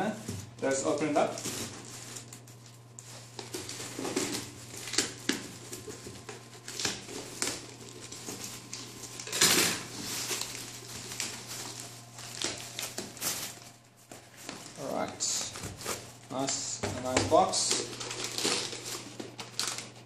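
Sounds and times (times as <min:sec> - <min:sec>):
low steady hum: 0:00.0 - 0:20.0
cardboard rustling and scraping: 0:00.2 - 0:19.9.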